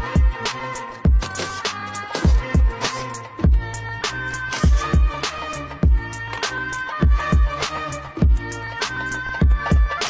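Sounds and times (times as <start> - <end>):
hip-hop beat with heavy bass: 0.0 - 10.0.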